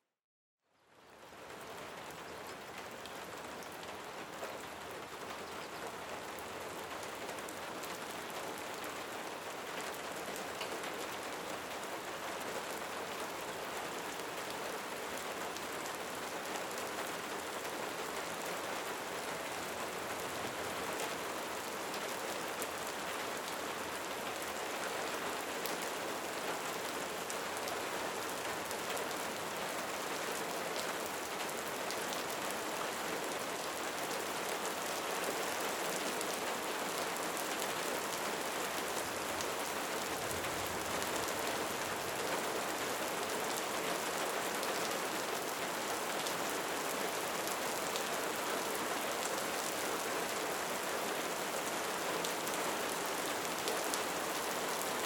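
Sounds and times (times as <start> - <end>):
steady rain falling: 0.8 - 55.0.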